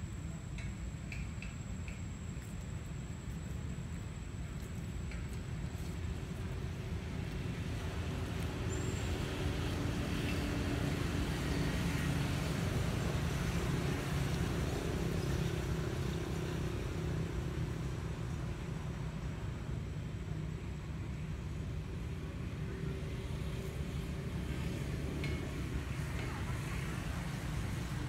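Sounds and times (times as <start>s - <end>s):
background traffic noise: 0.0s - 28.0s.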